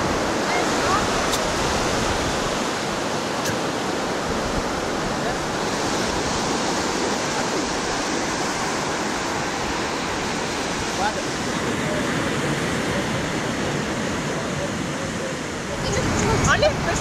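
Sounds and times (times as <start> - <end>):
sea surf on a beach: 0.0 - 17.0.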